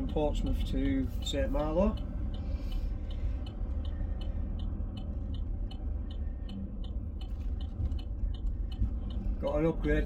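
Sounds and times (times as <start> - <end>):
car rolling slowly: 0.0 - 10.0
light regular ticking: 0.0 - 10.0.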